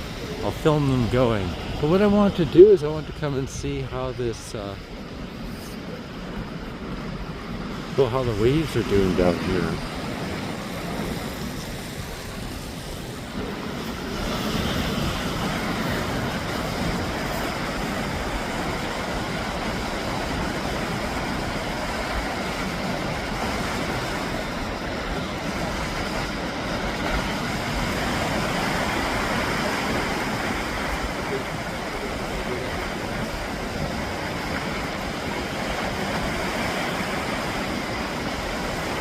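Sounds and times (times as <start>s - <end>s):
waves washing onto shore: 0.0s - 39.0s.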